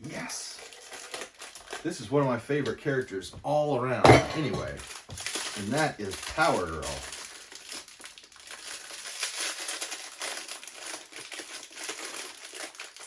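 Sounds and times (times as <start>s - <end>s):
plastic packaging crinkling: 0.2s - 3.2s, 4.4s - 13.0s.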